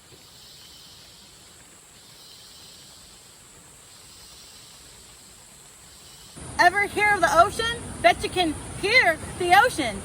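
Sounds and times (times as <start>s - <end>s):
insects buzzing: 0.2s - 9.6s.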